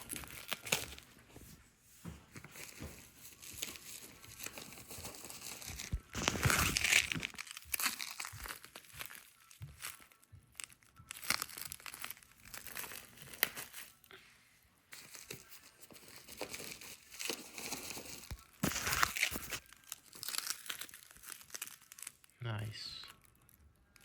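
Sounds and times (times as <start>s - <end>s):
packaging crinkling and rustling: 0.0s - 1.4s, 2.4s - 14.1s, 14.9s - 22.4s.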